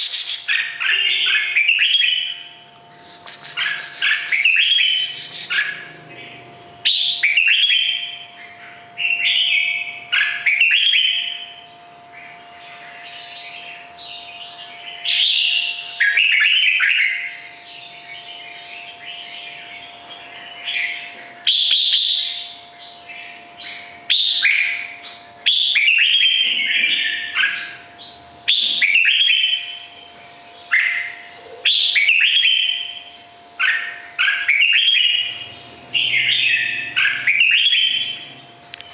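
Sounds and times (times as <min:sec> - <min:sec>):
bird chatter: 0:00.0 - 0:11.1, 0:12.1 - 0:33.0
bird singing warbling phrases: 0:00.0 - 0:29.9, 0:30.6 - 0:38.9.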